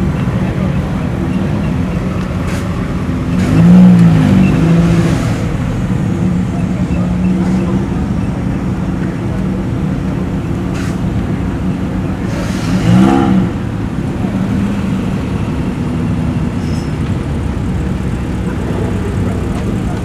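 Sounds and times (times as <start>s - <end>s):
car engine revving: 0.0s - 9.0s, 10.2s - 20.0s
car engines idling: 0.0s - 20.0s.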